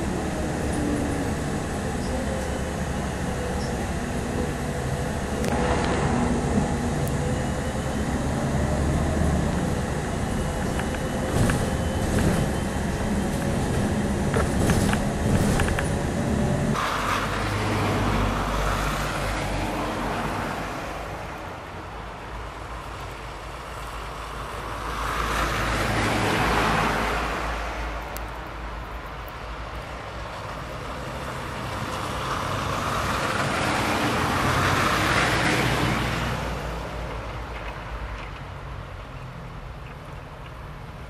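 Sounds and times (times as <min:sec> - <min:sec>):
vehicles passing on road: 0:00.0 - 0:41.0.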